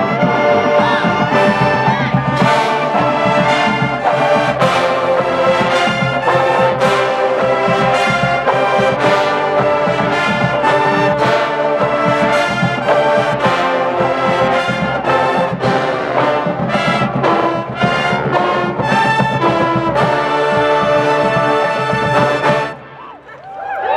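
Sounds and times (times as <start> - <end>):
marching band brass playing: 0.0 - 23.0.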